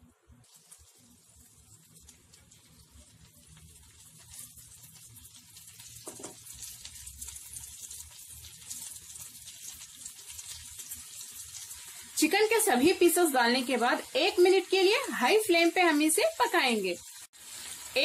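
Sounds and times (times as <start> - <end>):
chicken sizzling in frying pan: 0.4 - 18.0.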